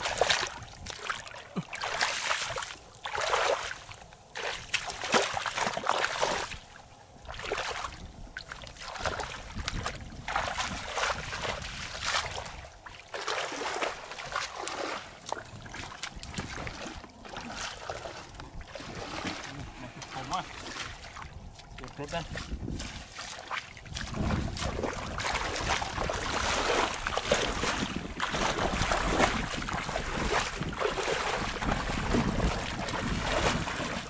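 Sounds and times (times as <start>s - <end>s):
muddy water splashing: 0.0s - 34.0s.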